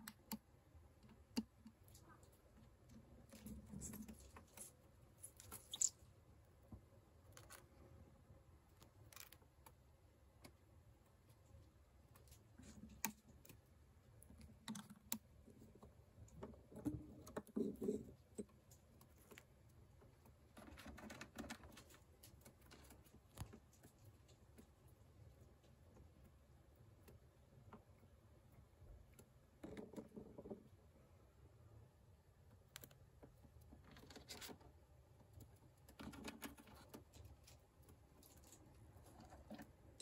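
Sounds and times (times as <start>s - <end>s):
faint clicks and light taps: 0.0s - 5.6s, 8.6s - 30.9s, 32.2s - 40.0s.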